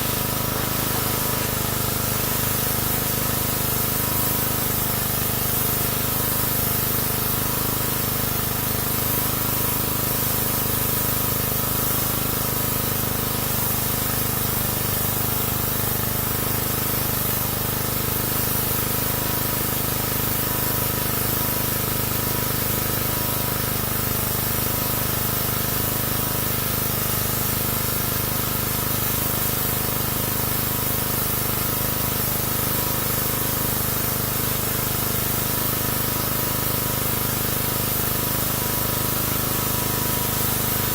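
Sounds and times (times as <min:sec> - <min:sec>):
pressure washer spraying water: 0:00.0 - 0:40.9.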